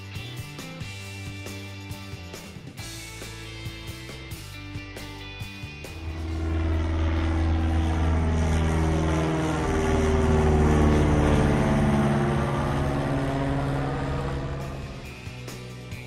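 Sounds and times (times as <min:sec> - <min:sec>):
propeller airplane engine drone: 0:00.0 - 0:16.0.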